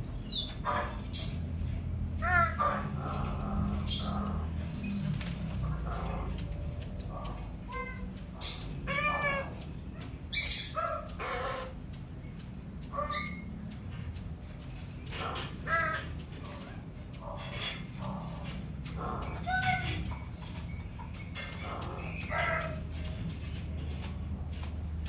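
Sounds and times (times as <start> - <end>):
bird calling: 0.0 - 24.9
steady low rumble: 0.0 - 25.0.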